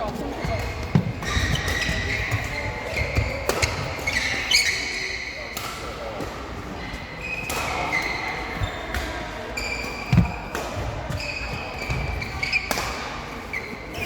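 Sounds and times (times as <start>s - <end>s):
sneakers squeaking on court floor: 0.0s - 5.6s, 7.2s - 14.0s.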